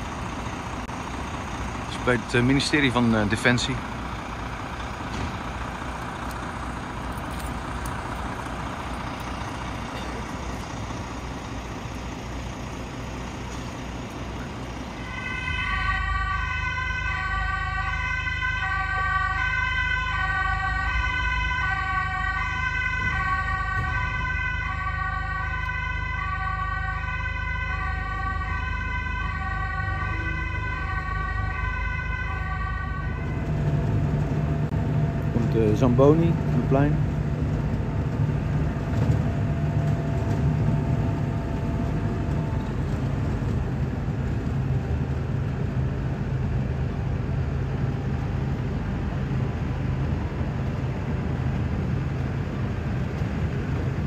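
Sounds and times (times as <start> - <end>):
street noise: 0.0 - 54.0
two-tone emergency siren: 0.0 - 54.0
vehicle engine running: 0.0 - 54.0.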